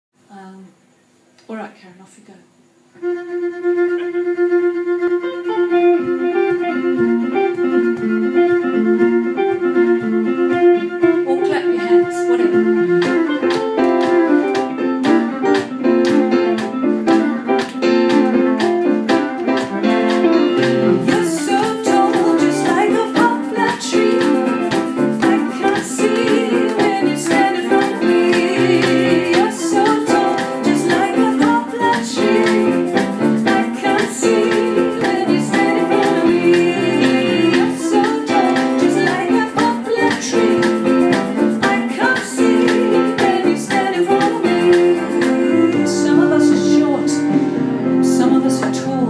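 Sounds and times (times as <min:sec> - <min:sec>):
picked guitar: 0:03.0 - 0:49.0
viola: 0:03.0 - 0:49.0
percussion beat: 0:06.3 - 0:48.9.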